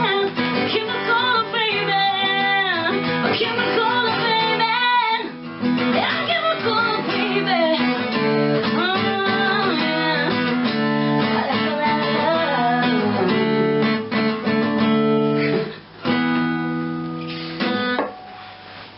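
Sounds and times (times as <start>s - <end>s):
strummed acoustic guitar: 0.0s - 18.9s.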